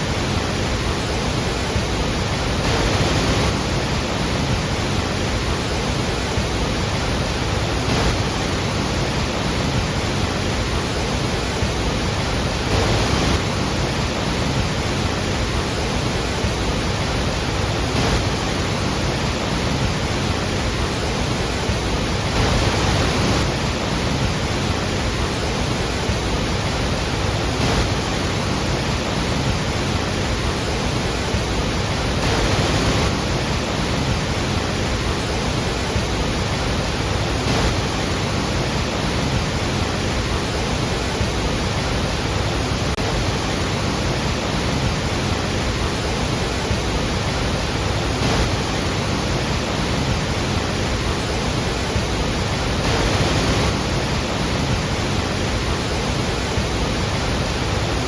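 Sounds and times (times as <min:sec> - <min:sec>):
large waterfall thundering: 0:00.0 - 0:58.0.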